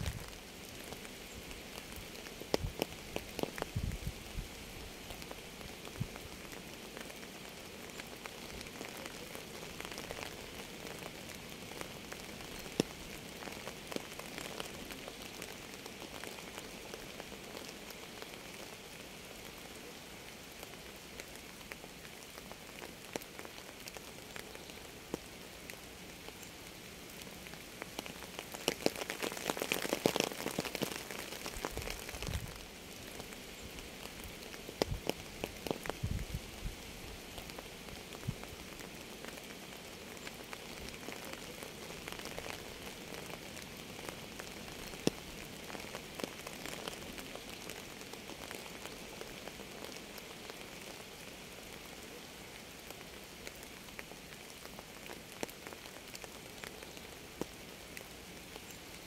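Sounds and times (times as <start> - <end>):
raindrops ticking: 0.0 - 4.3, 4.9 - 19.7, 20.3 - 59.0
steady rain falling: 0.0 - 59.0.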